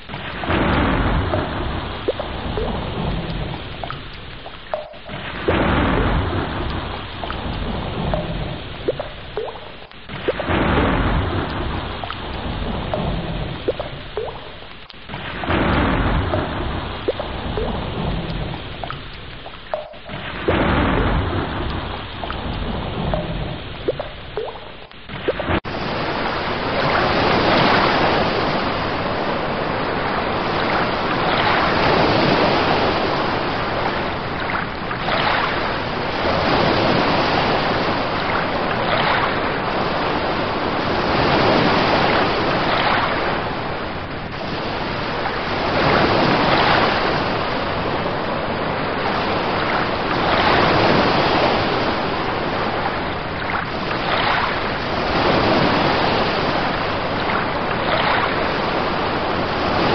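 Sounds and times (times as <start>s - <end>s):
waves breaking: 0.0s - 59.9s.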